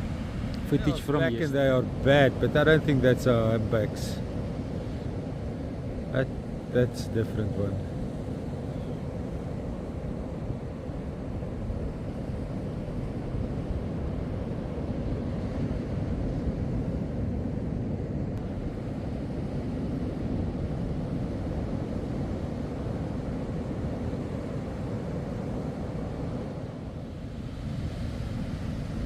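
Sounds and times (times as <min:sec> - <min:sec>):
beach surf: 0:00.0 - 0:29.0.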